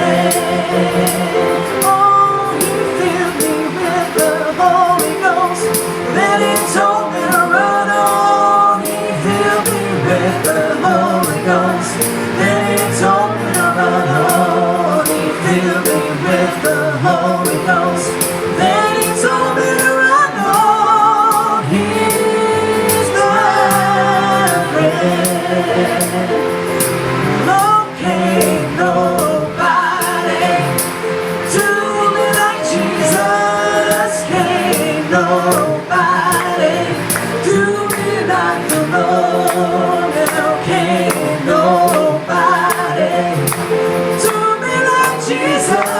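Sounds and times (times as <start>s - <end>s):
band playing worship song: 0.0s - 45.9s
women singing: 0.0s - 45.9s.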